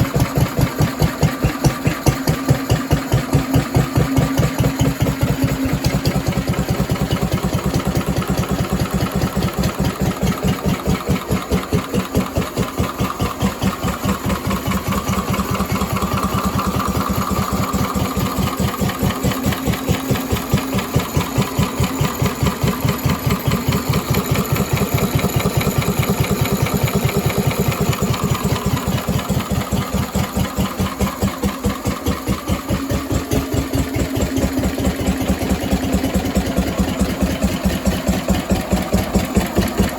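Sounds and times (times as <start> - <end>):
stationary engine thumping: 0.0 - 39.9.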